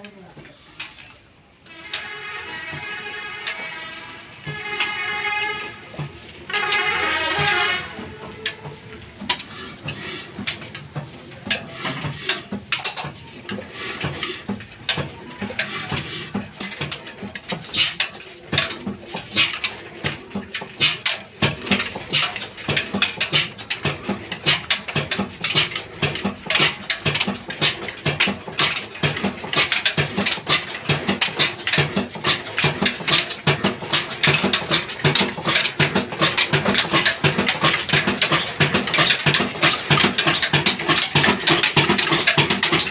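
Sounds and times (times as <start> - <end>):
diesel engine knocking beat: 1.7 - 42.9.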